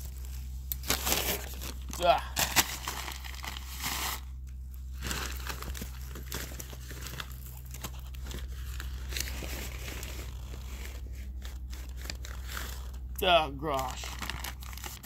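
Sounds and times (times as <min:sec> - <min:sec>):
plastic bag and paper crinkling: 0:00.0 - 0:15.0.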